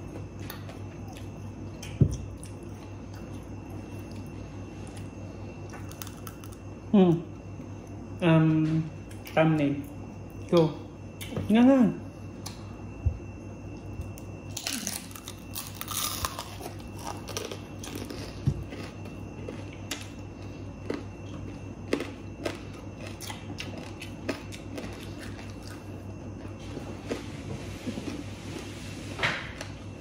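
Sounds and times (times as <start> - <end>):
people chewing food: 0.0 - 8.0, 12.4 - 28.9
steady low hum: 0.0 - 30.0.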